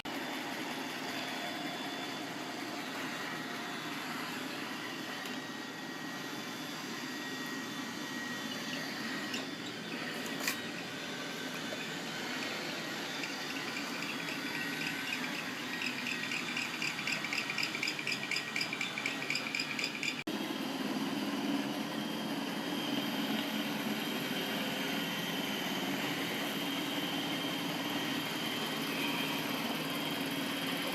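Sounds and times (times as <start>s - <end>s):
robot vacuum motor hum: 0.1s - 30.9s.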